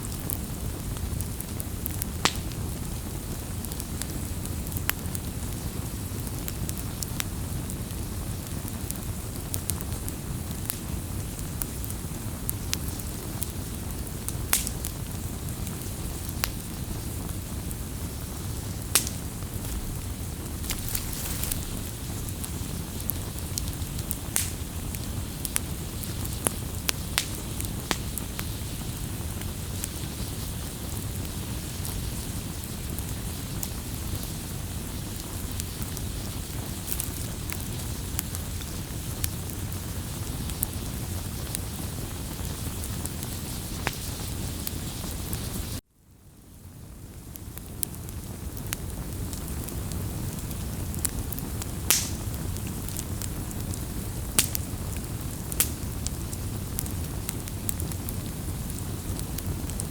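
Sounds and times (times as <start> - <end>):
campfire crackling and popping: 0.0 - 45.8, 47.1 - 59.9.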